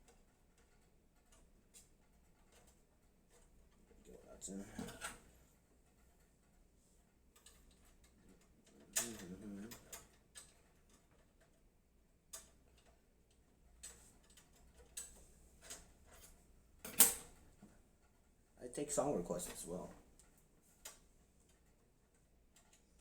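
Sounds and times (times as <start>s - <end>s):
faint clicks and metallic taps: 0.0s - 11.7s, 12.3s - 18.5s, 19.5s - 23.0s.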